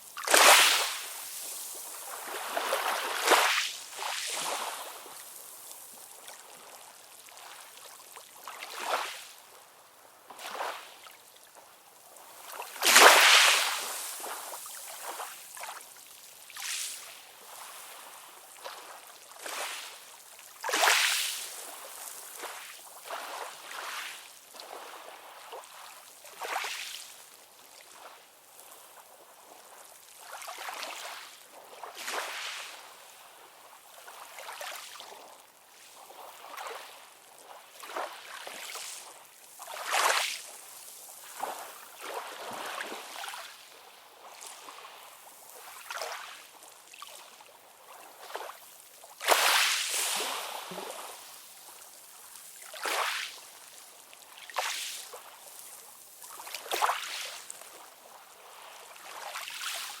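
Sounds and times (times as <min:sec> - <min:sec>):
small waves lapping and splashing: 0:00.0 - 1:00.0.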